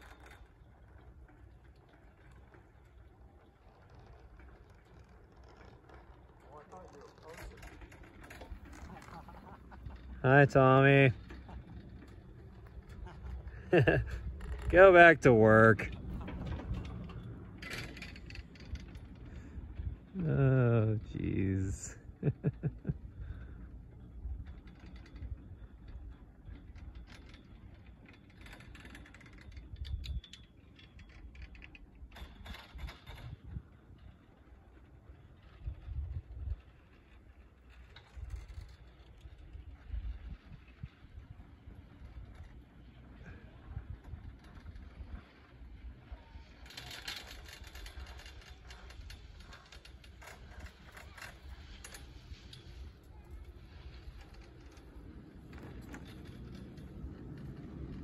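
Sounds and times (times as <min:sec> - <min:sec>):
chairlift clicking and clatter: 0:00.0 - 0:58.0
low rumble of wind and ride noise: 0:00.0 - 0:58.0.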